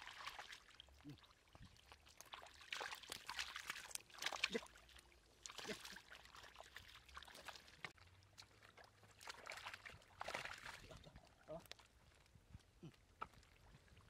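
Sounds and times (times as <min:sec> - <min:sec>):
splashing in muddy water: 0:00.0 - 0:14.0.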